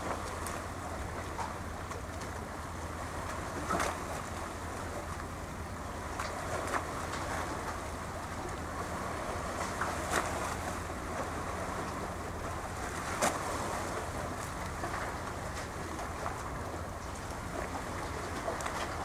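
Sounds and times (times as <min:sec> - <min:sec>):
water noise: 0:00.0 - 0:19.0
wind: 0:00.0 - 0:19.0.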